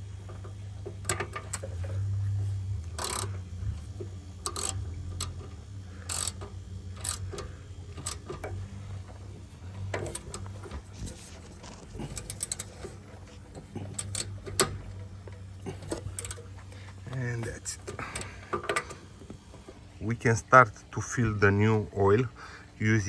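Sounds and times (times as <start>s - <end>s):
low steady hum: 0.0s - 23.0s
metal tool clicks and scraping: 0.3s - 19.2s.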